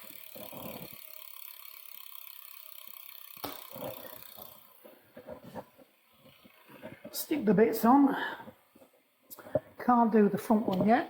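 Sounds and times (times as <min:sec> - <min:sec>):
bicycle freehub ticking: 0:00.0 - 0:09.4.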